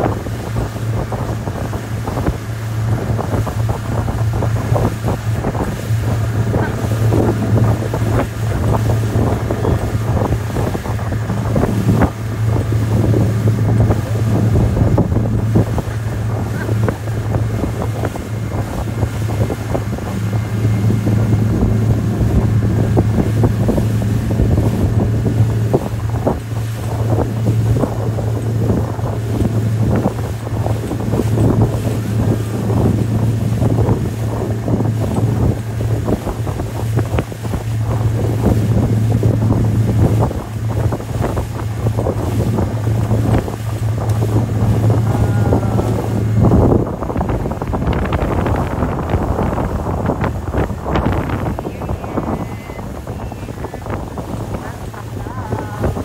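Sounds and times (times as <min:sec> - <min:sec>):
boat wake churning: 0:00.0 - 0:56.0
outboard motor drone: 0:00.0 - 0:56.0
wind buffeting microphone: 0:00.0 - 0:56.0.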